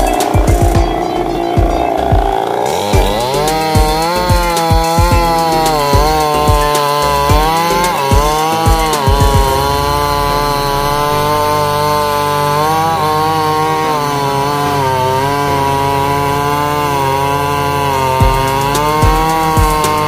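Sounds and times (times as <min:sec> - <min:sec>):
chainsaw cutting log: 0:00.0 - 0:20.0.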